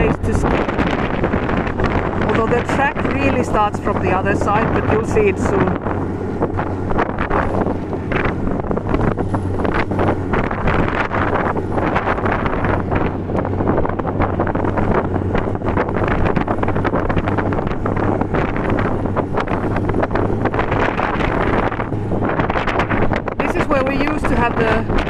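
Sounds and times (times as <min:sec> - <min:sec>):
snowmobile engine humming: 0:00.0 - 0:25.0
wind noise on microphone: 0:00.0 - 0:25.0.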